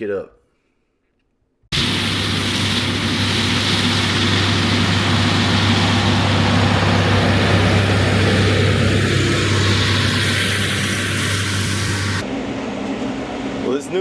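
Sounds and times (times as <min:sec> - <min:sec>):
tractor engine droning: 0:01.7 - 0:13.9.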